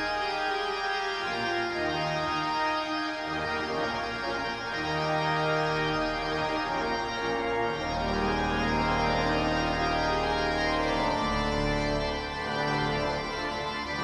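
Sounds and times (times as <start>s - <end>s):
deep organ pedal bass notes: 0.0s - 14.0s
pipe organ chords: 0.0s - 14.0s.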